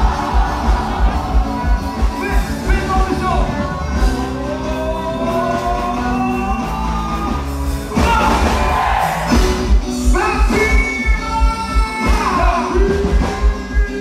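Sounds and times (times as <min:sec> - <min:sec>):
singing over a band: 0:00.0 - 0:14.0.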